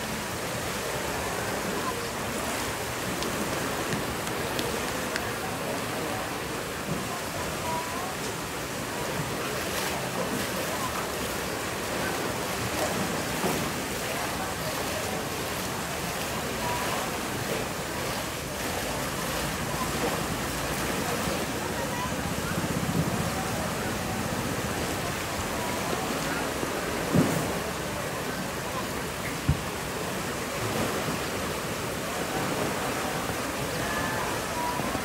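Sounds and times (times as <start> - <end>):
turbulent water rushing: 0.0 - 35.0.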